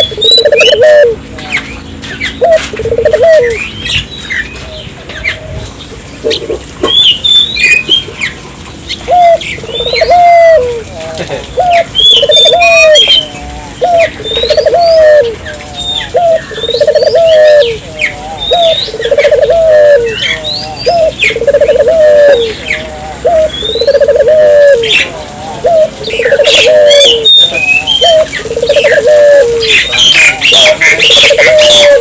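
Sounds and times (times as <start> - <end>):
doves cooing: 0.0 - 32.0
small birds chirping: 0.0 - 32.0.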